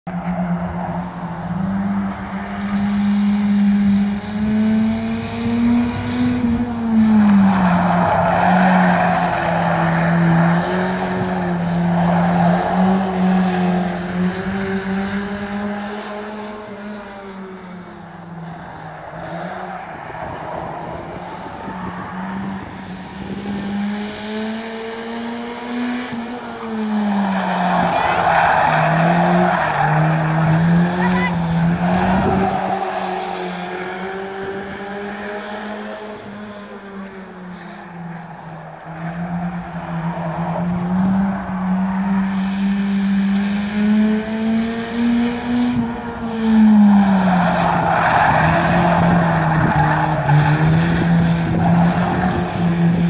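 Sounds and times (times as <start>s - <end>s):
racing car engine: 0.0s - 53.0s
rushing noise of car passing: 0.1s - 53.0s.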